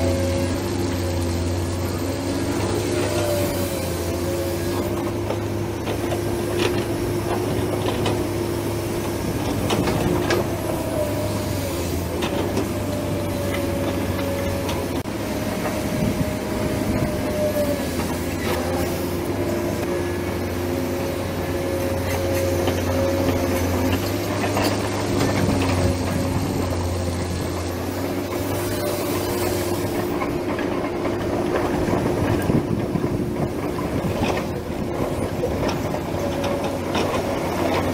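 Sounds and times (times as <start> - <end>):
model excavator motor whine: 0.0 - 37.9.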